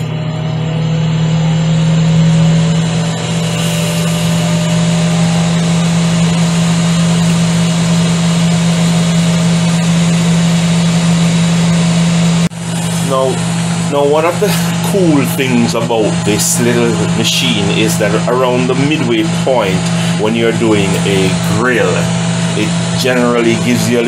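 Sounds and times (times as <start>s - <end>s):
grill fan humming: 0.0s - 24.0s.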